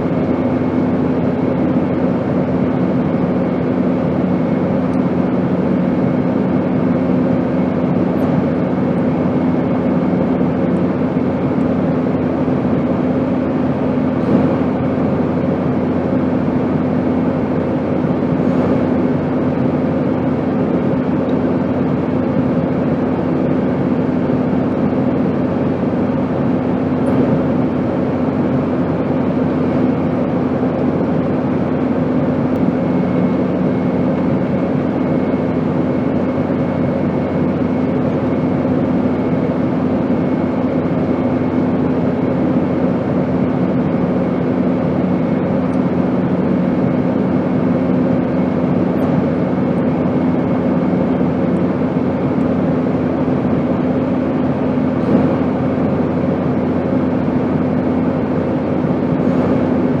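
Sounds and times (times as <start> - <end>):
airplane engine drone: 0.0 - 60.0.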